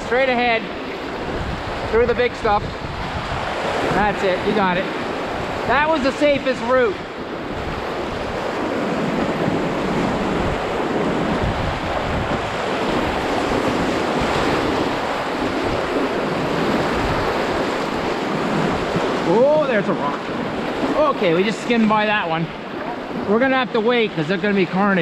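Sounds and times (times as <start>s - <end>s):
whitewater rushing: 0.0s - 25.0s.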